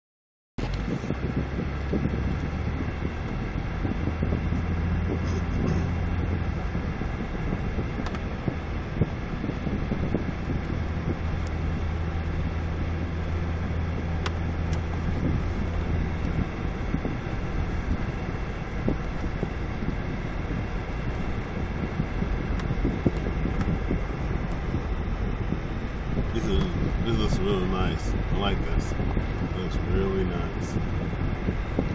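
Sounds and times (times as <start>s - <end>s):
road and tyre noise: 0.6s - 31.9s
vehicle engine humming: 0.6s - 31.9s.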